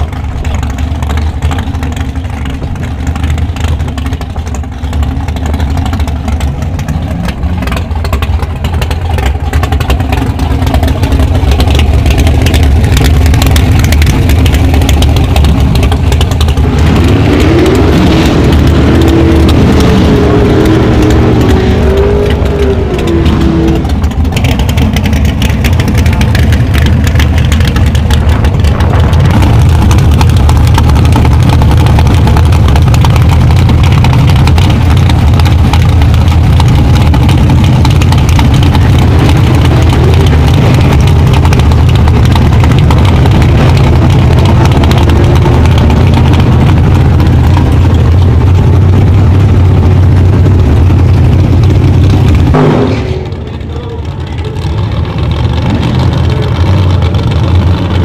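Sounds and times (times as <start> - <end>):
loud engine idling: 0.0 - 58.0.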